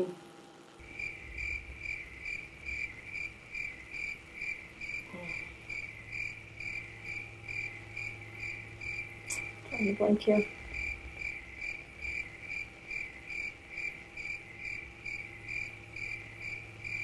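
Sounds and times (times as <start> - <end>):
faint steady hum: 0.0 - 17.0
crickets chirping: 0.6 - 17.0.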